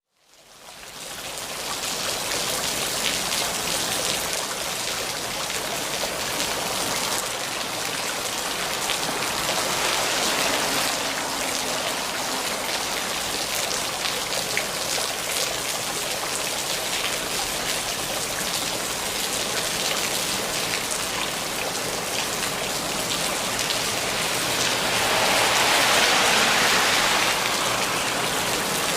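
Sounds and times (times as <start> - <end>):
steady rainfall: 0.1 - 28.9.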